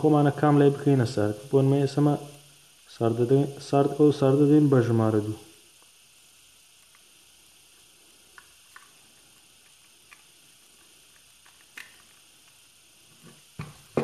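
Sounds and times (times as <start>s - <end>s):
low hiss: 0.0s - 14.0s.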